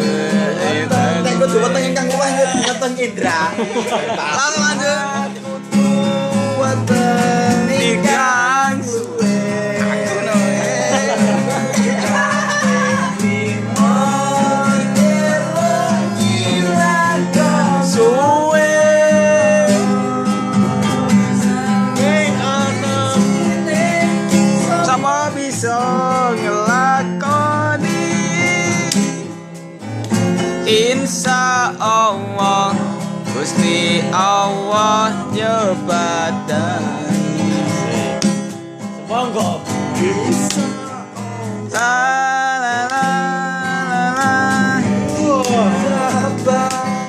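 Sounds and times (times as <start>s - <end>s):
person singing: 0.0s - 29.3s, 30.6s - 38.2s, 40.0s - 47.0s
acoustic guitar music: 0.0s - 47.0s.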